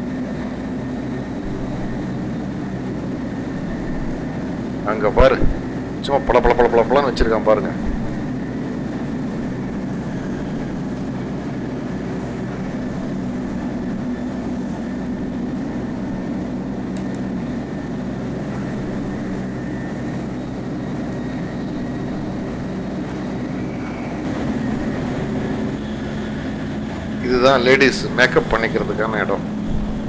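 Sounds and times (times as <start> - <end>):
train rumble with low hum: 0.0 - 30.0.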